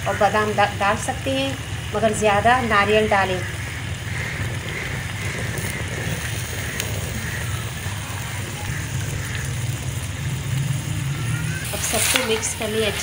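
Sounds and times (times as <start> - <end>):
food sizzling in oil: 0.0 - 13.0
low even rumble: 0.0 - 13.0.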